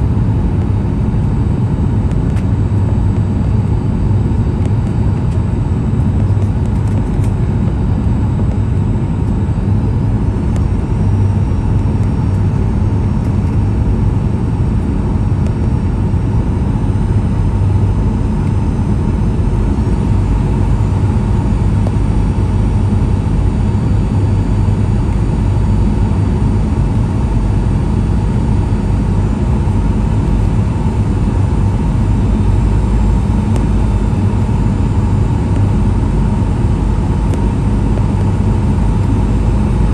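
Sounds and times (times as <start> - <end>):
airflow and jet engine rumble: 0.0 - 39.9
constant hum: 0.0 - 39.9
faint high whine: 0.0 - 39.9.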